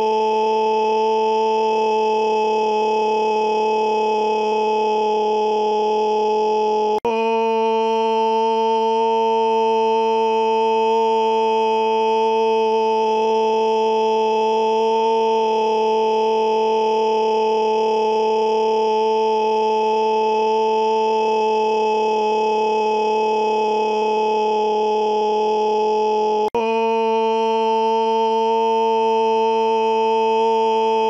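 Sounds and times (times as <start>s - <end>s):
loud steady scream: 0.0s - 31.0s.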